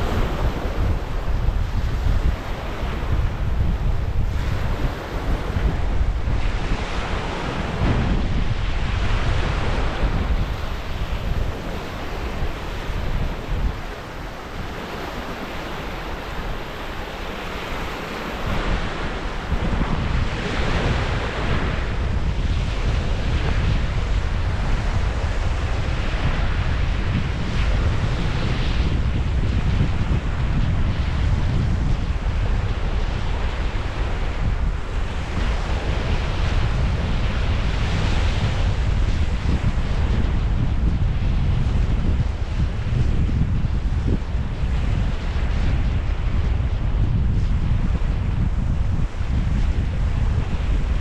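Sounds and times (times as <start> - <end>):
surf washing on shore: 0.0 - 51.0
wind rumble on microphone: 0.0 - 51.0.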